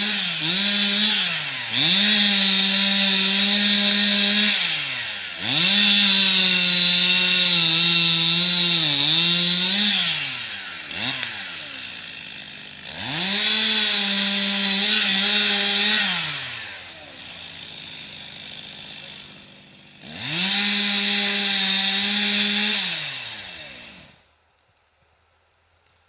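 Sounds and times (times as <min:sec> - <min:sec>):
chainsaw revving and idling: 0:00.0 - 0:24.3.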